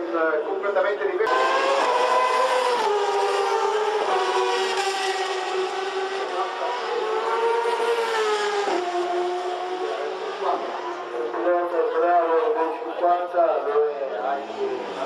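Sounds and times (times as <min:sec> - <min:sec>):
racing engine at high revs: 0:01.2 - 0:13.0, 0:13.6 - 0:15.0.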